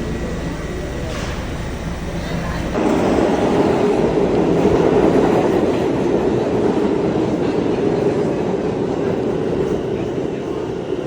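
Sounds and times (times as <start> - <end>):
subway train wheels on rails: 0.0 - 11.0.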